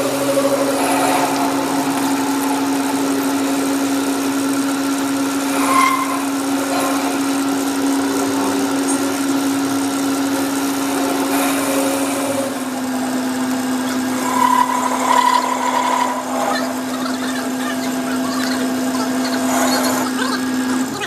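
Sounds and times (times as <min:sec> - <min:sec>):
high whine: 0:00.0 - 0:21.0
machine motor humming: 0:00.0 - 0:21.0.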